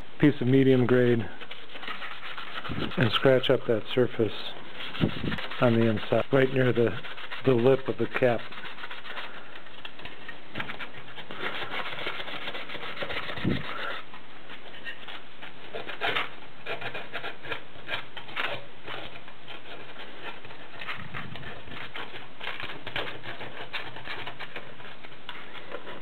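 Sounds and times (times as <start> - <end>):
sandpaper scratching plastic: 0.5 - 26.0.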